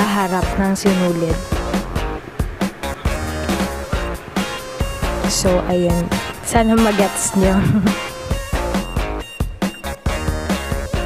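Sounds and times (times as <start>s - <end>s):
instrumental music with heavy bass: 0.4s - 11.0s.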